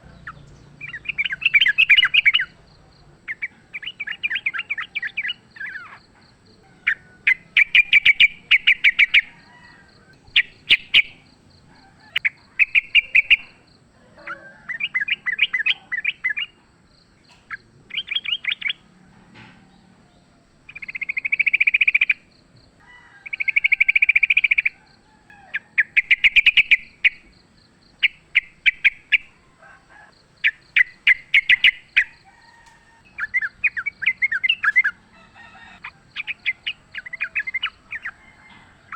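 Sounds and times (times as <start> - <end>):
bird singing rapid phrases: 0.0 - 9.5, 10.1 - 18.9, 20.7 - 22.3, 23.3 - 24.8, 25.4 - 29.4, 30.3 - 38.9.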